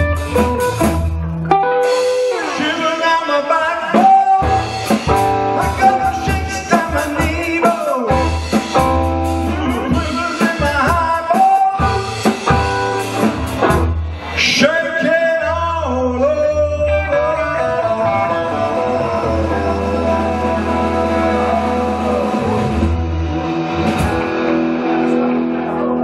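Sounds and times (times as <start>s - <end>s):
drums: 0.0s - 25.8s
electric guitars: 0.0s - 26.0s
man singing: 2.2s - 8.6s, 9.3s - 12.5s, 14.4s - 26.0s.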